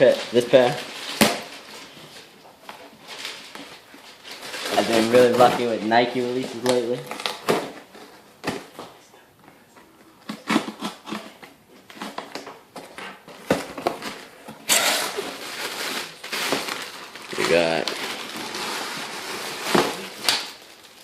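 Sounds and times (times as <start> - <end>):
packing rustling: 0.0 - 8.7, 11.9 - 21.0.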